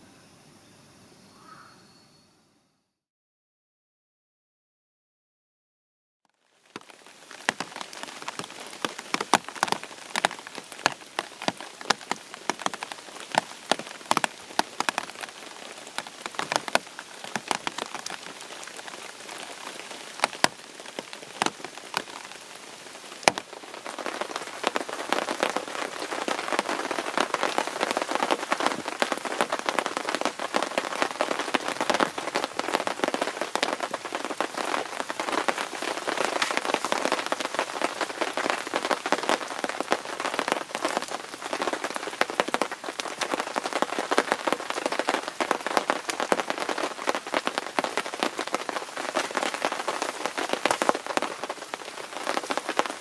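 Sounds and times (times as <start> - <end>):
rain falling: 6.3 - 53.0.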